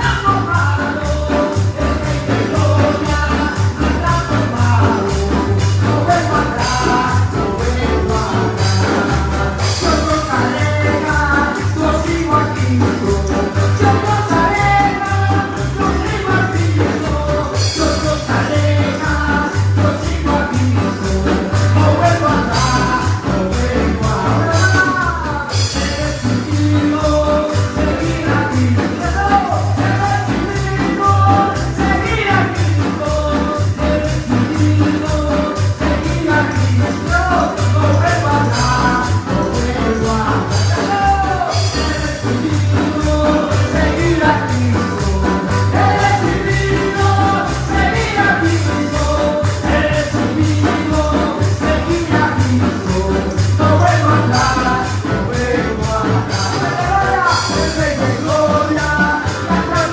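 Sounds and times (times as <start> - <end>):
praise band playing latin song: 0.0 - 59.9
steady bass beat: 0.0 - 59.9
tambourine: 0.0 - 59.9
voices singing: 0.0 - 59.9.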